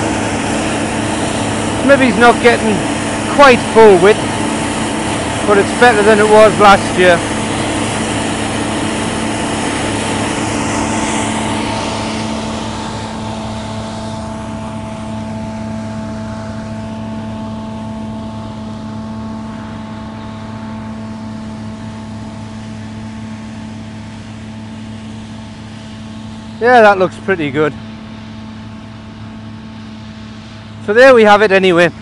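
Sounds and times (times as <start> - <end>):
combine harvester engine hum: 0.0 - 32.0.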